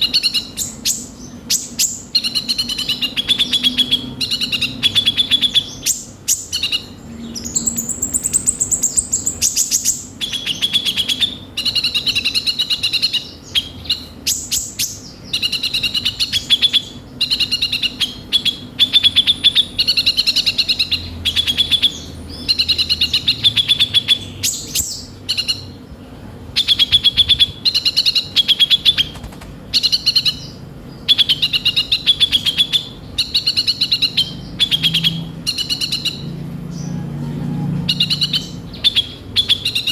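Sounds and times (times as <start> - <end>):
bird singing rapid chirping trills: 0.0 - 39.9.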